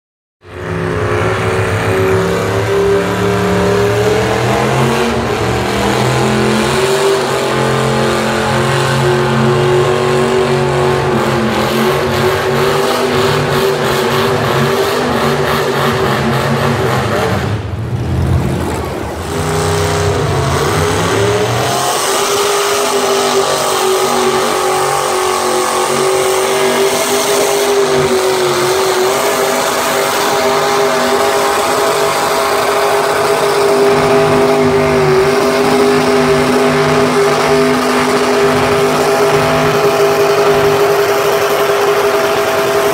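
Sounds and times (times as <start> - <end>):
second tractor engine revving: 0.4 - 42.9
tractor engine running hard: 0.4 - 42.9.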